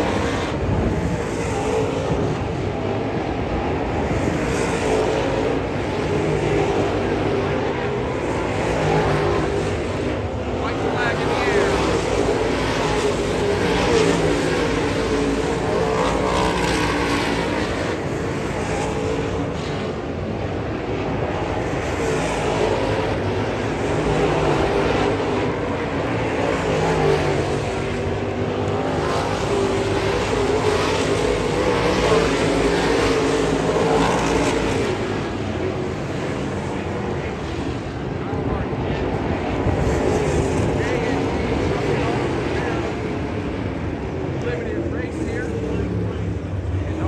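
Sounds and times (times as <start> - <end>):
race car engines droning: 0.0 - 47.0.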